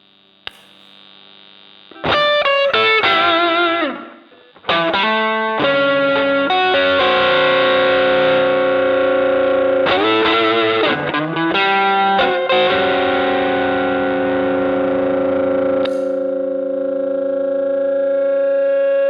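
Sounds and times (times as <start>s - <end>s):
electric guitar: 1.9s - 19.0s.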